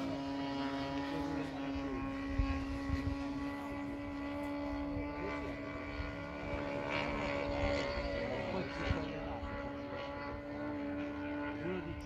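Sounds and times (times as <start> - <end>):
model plane engine droning: 0.0 - 12.0.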